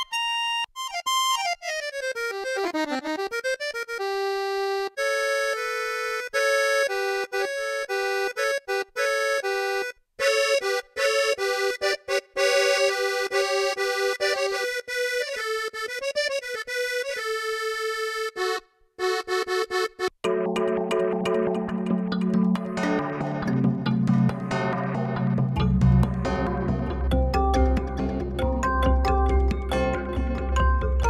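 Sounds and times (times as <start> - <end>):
keytar synthesizer melody: 0.0 - 31.0.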